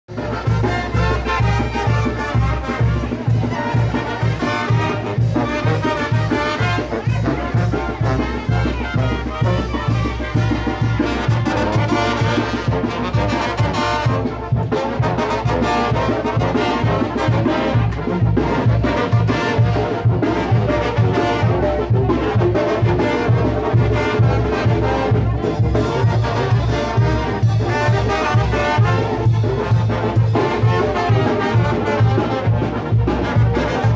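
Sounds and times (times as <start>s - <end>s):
brass band playing dance tune: 0.1s - 33.9s.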